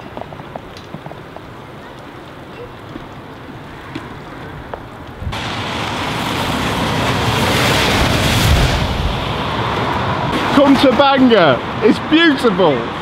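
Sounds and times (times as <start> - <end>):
wind rumble: 0.0 - 12.1
lorry passing on wet road: 0.0 - 13.0.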